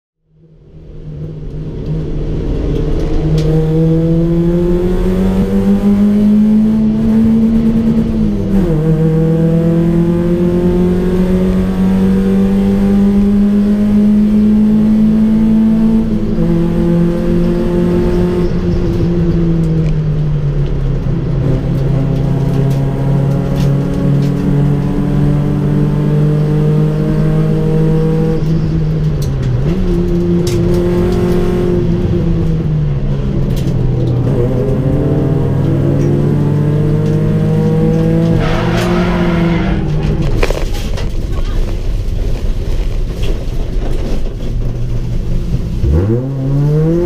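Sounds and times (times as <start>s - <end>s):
car engine accelerating: 0.9s - 47.0s.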